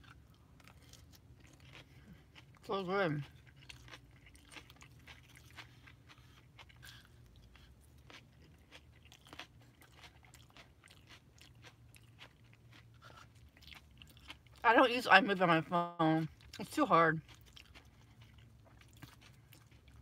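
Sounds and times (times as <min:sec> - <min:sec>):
faint chewing: 0:00.0 - 0:14.6, 0:16.2 - 0:20.0.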